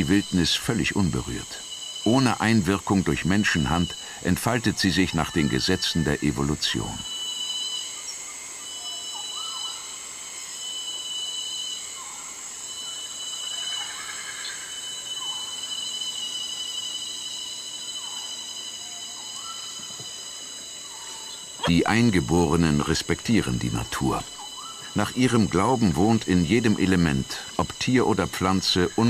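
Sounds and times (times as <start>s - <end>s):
insects high-pitched droning: 0.0s - 29.0s
short insect calls: 0.0s - 29.0s.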